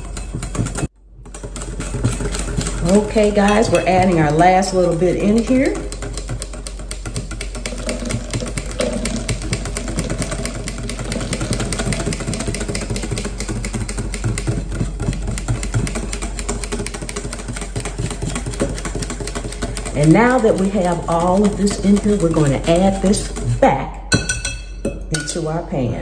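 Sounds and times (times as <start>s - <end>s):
whisk clicking against glass bowl: 0.0s - 23.6s.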